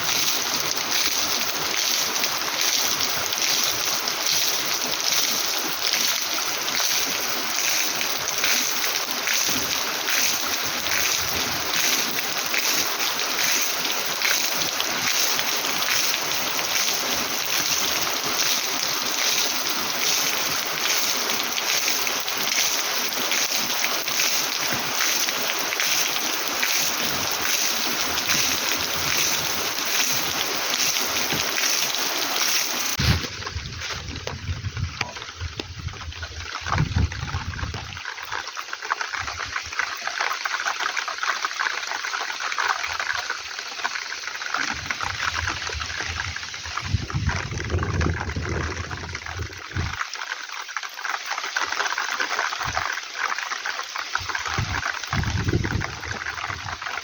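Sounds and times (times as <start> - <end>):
heavy rain falling: 0.0 - 39.4, 43.9 - 50.2, 53.9 - 57.0.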